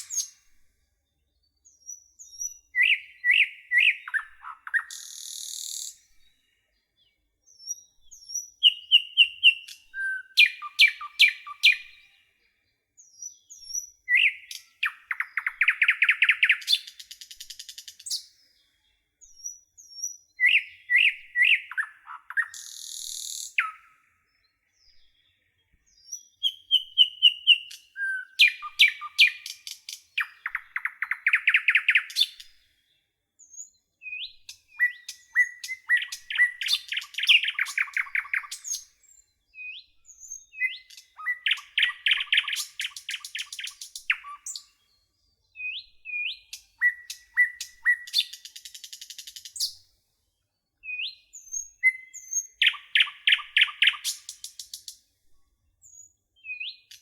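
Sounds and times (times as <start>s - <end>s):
songbird singing trills: 0.0s - 49.8s, 50.4s - 55.0s, 55.8s - 57.0s.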